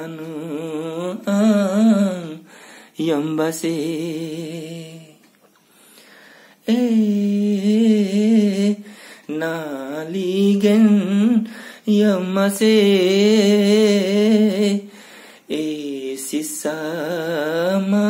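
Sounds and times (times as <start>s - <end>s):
man singing unaccompanied: 0.0s - 5.4s, 6.6s - 18.0s.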